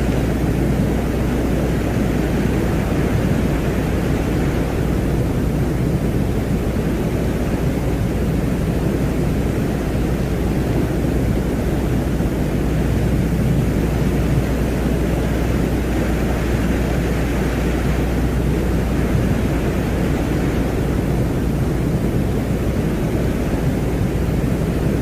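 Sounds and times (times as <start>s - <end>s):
low rumbling noise drone: 0.0s - 25.0s.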